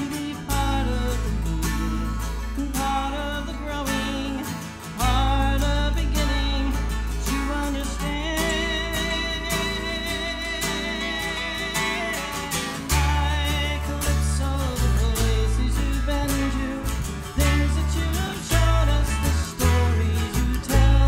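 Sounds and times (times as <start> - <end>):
bass guitar: 0.0 - 21.0
man singing: 0.0 - 21.0
strummed acoustic guitars: 0.0 - 21.0.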